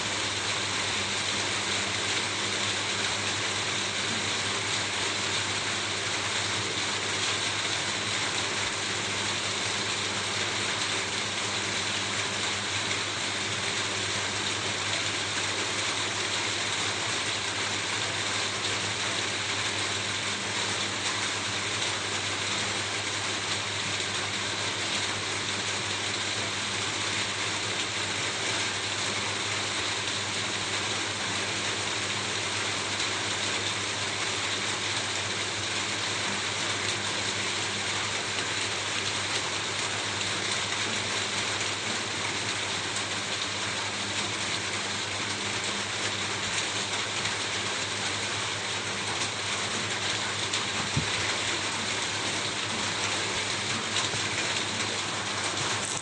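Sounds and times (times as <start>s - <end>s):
rain falling on a roof: 0.0s - 56.0s.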